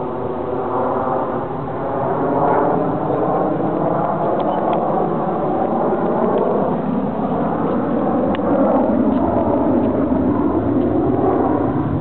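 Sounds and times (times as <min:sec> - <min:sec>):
jet engines flying overhead: 0:00.0 - 0:12.0.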